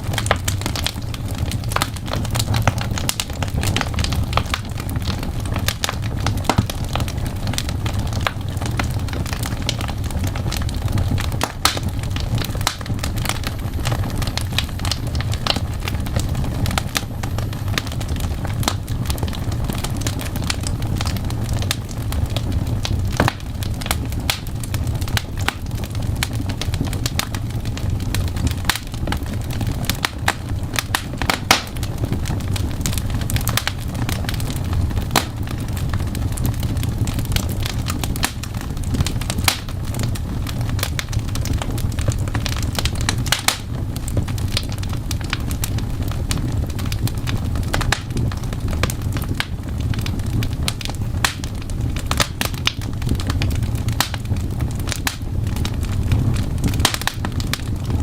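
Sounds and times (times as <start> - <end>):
fireplace crackling and popping: 0.0 - 58.0.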